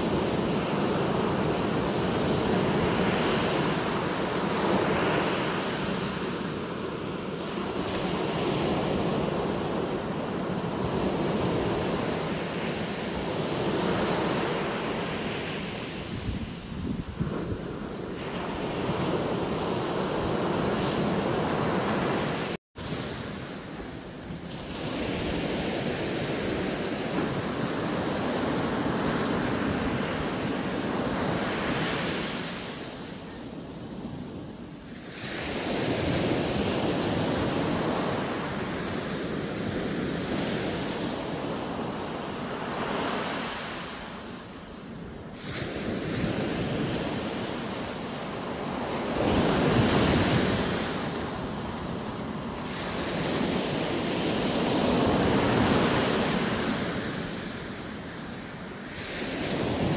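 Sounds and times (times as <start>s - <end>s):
surf washing up sandy beach: 0.0s - 59.9s
wind rumbling on microphone: 0.0s - 59.9s.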